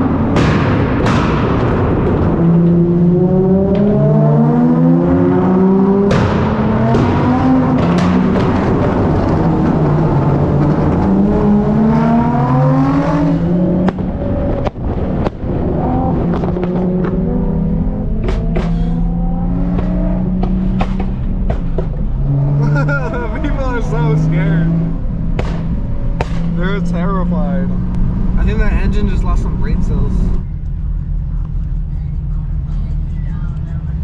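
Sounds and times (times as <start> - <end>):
car engines revving: 0.0 - 34.0
exhaust and tyre noise: 0.0 - 34.0.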